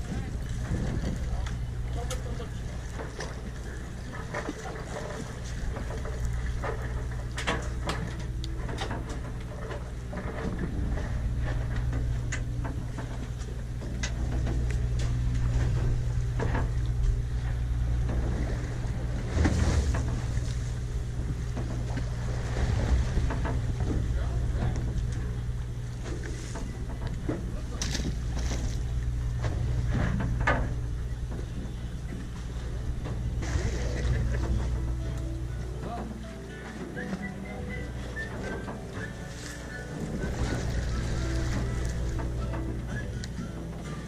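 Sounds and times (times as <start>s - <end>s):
boat engine humming: 0.0s - 44.0s
water noise: 0.0s - 44.0s
wind: 0.0s - 44.0s.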